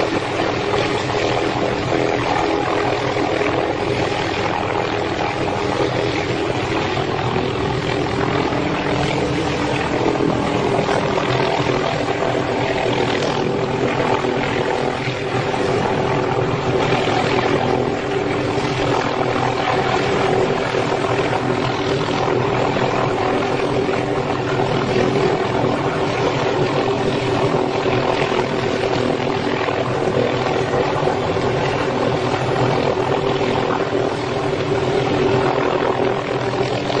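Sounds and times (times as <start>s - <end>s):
helicopter hovering: 0.0s - 37.0s.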